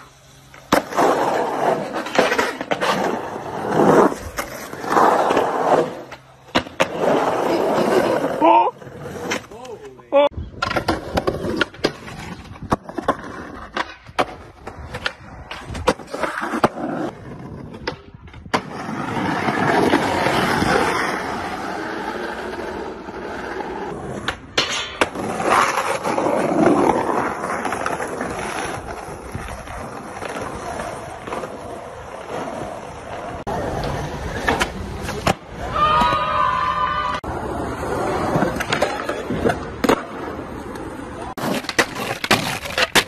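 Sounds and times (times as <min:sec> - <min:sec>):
skateboard wheels rolling on asphalt: 0:00.0 - 0:43.0.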